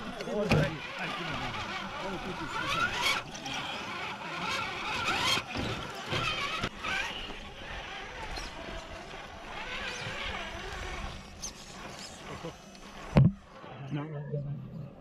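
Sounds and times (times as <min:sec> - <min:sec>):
electric motor and drivetrain whining: 0:00.0 - 0:14.1.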